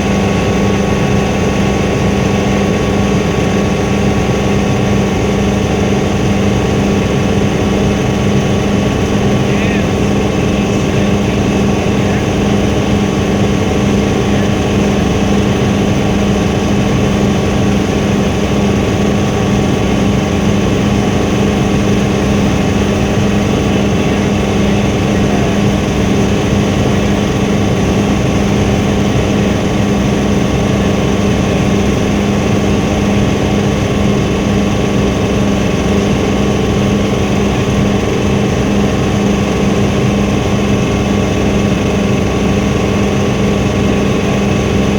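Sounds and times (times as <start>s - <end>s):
helicopter rotor and engine drone: 0.0s - 44.9s.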